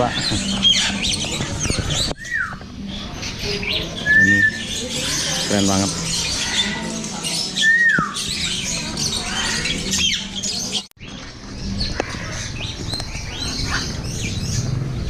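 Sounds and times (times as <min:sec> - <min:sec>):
birds squawking and chirping: 0:00.0 - 0:15.0.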